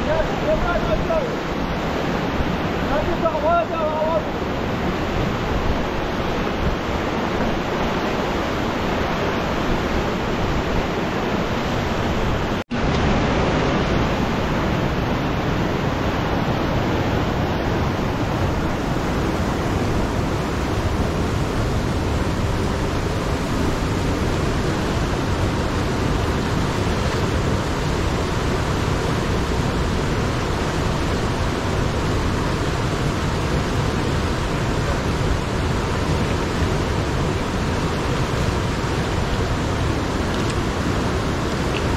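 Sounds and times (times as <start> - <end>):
fast river rushing through rapids: 0.0 - 41.9.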